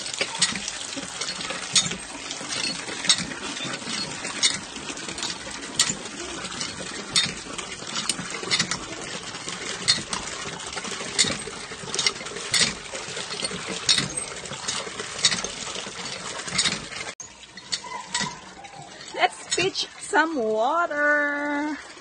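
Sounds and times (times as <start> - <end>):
water splashing into plastic bucket: 0.0 - 20.4
hand pump metal clank: 0.0 - 20.5.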